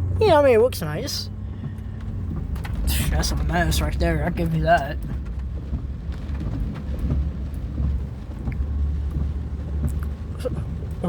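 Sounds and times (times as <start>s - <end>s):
car cabin driving rumble: 0.0s - 11.0s.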